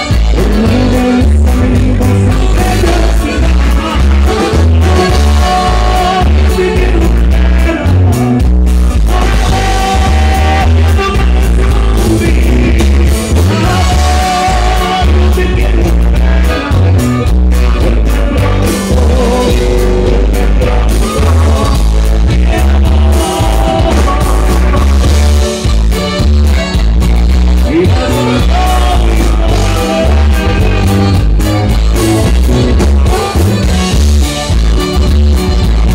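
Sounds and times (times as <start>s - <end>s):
person singing: 0.0s - 8.4s, 9.1s - 25.6s, 27.6s - 34.0s
live band playing slow ballad: 0.0s - 35.9s
loud steady bass: 0.0s - 35.9s.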